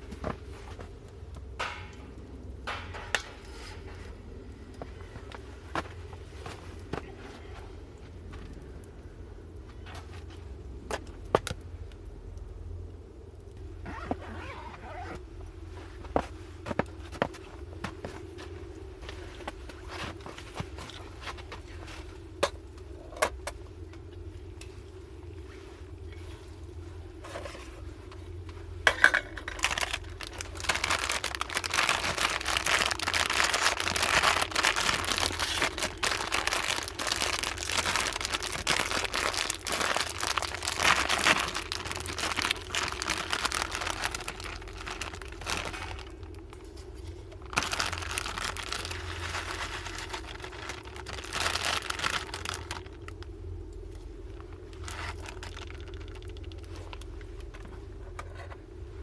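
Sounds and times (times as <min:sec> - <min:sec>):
crinkling and rustling: 0:00.0 - 0:02.0, 0:02.6 - 0:12.1, 0:13.4 - 0:59.0
steady low hum: 0:00.0 - 0:59.0.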